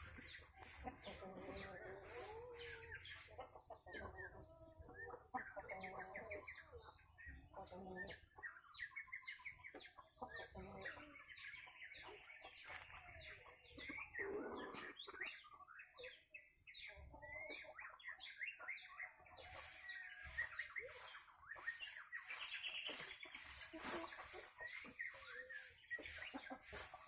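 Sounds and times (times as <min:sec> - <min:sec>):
birds chirping: 0:00.0 - 0:27.0
chicken clucking: 0:00.0 - 0:27.0.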